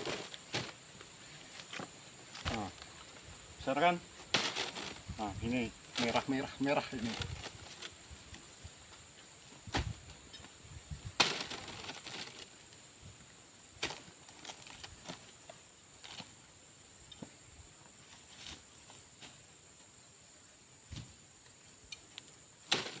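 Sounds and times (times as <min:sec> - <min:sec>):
steady high-pitched hiss: 0:00.0 - 0:23.0.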